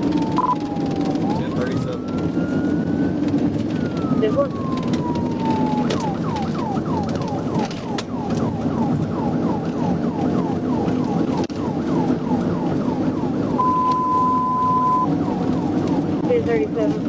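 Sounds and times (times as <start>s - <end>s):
police siren wail and yelp: 0.0s - 17.0s
road and engine noise: 0.0s - 17.0s.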